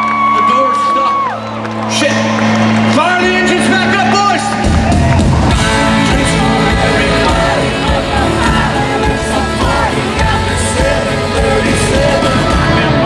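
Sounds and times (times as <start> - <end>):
live country-rock band with singing: 0.0 - 13.0.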